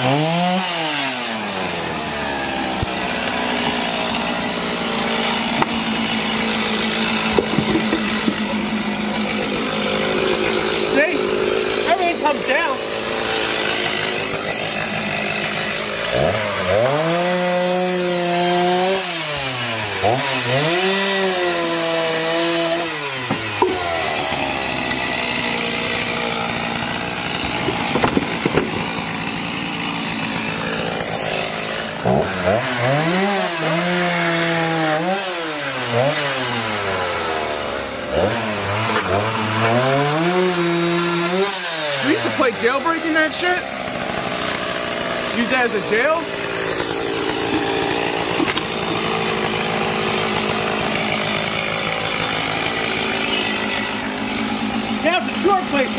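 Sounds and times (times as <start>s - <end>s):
chainsaw revving: 0.0s - 55.9s.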